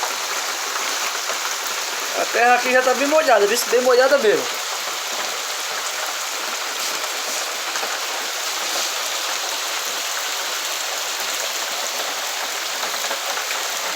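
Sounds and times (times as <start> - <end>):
rain on roof tiles: 0.0 - 13.9.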